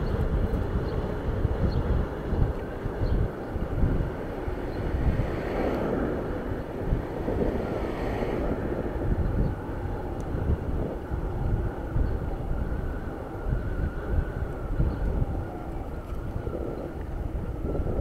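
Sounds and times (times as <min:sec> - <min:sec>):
broad rushing noise: 0:00.0 - 0:18.0
wind buffeting microphone: 0:00.0 - 0:18.0.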